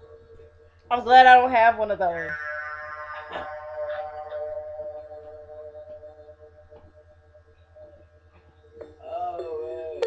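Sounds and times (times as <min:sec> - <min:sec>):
ambient music held ringing tones: 0:00.0 - 0:10.0.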